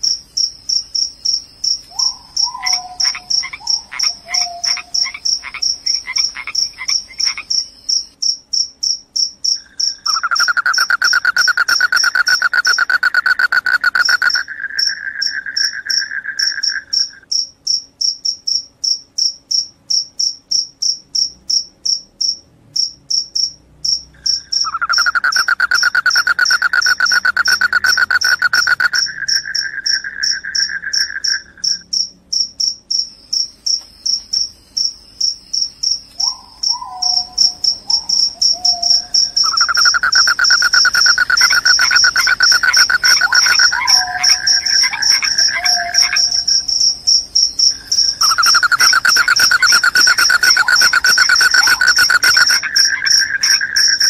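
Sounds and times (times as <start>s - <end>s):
crickets chirping: 0.0s - 54.0s
low continuous insect trill: 0.0s - 54.0s.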